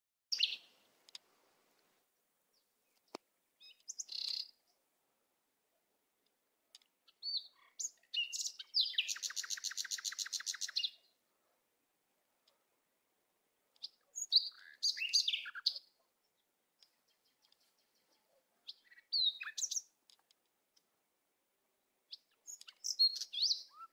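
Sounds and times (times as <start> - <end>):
songbird chirps and trill: 0.3 - 5.0, 5.7 - 11.3, 12.0 - 23.9.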